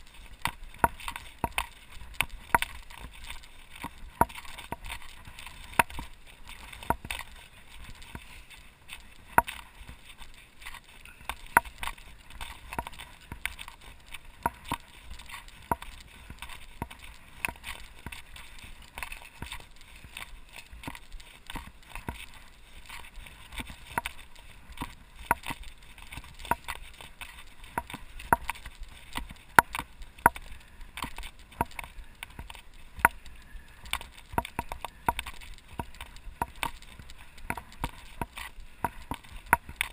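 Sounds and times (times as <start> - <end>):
bike rattling over bumpy dirt: 0.0 - 39.9.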